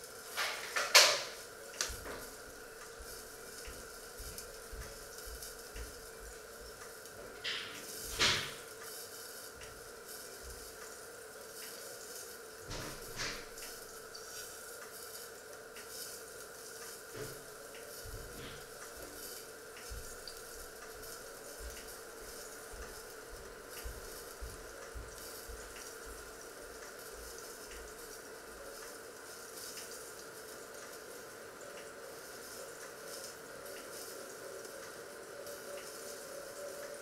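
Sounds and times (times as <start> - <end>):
pots simmering hiss and hum: 0.0 - 37.0.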